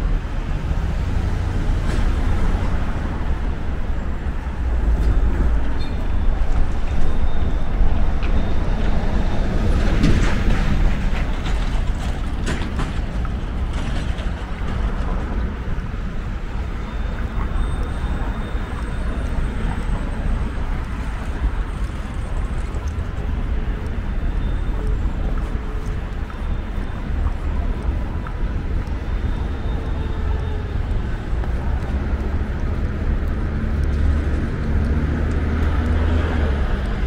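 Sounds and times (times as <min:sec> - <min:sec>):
street traffic rumble: 0:00.0 - 0:37.0.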